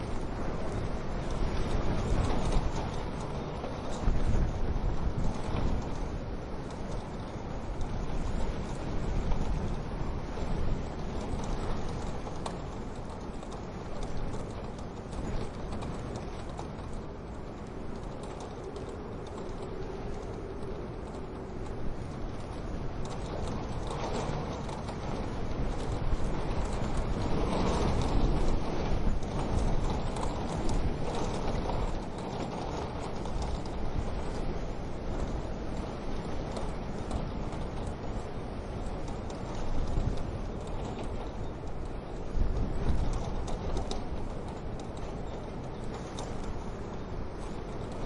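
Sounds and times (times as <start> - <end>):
low rumble of stove: 0.0 - 48.0.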